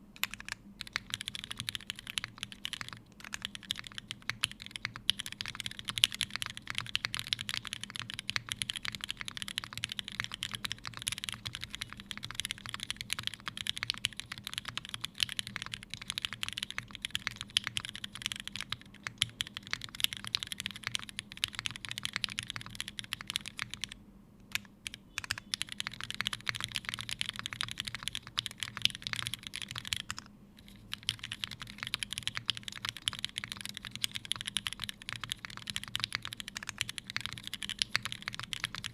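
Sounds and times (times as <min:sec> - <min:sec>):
fast typing on mechanical keyboard: 0:00.2 - 0:38.9.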